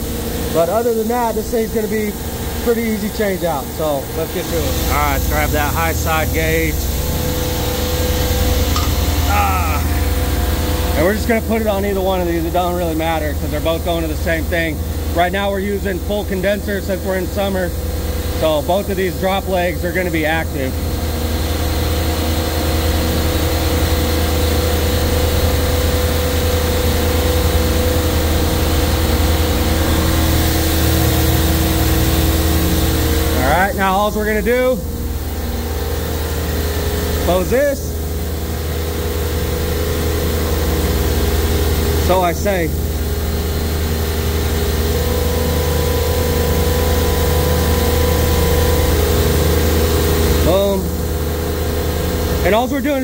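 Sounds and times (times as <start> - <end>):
refrigeration compressor hum: 0.0 - 53.0.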